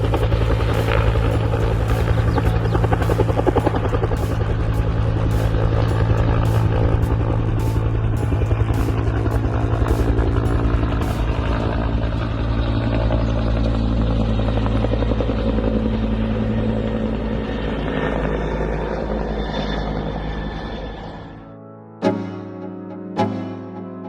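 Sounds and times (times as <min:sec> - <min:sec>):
loud mechanical drone: 0:00.0 - 0:21.5.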